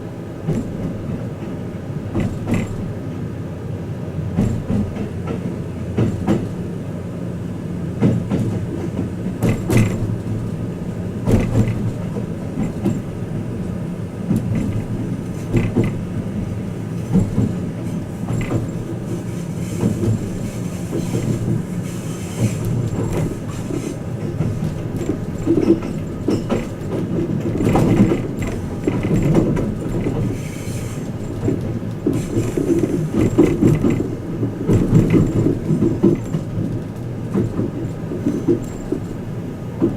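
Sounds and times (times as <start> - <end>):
train rumble from inside: 0.0 - 39.9
wheels clicking over rail joints: 0.4 - 2.9, 4.4 - 6.6, 8.0 - 39.9.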